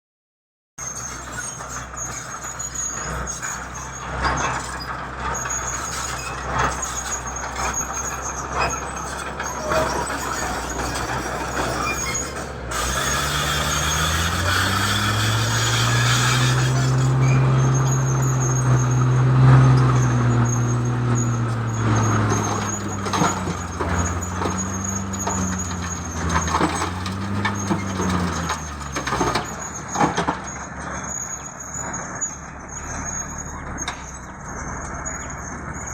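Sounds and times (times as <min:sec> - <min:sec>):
diesel engine working: 0:00.8 - 0:35.9
metal clanks and squeals: 0:00.8 - 0:35.9.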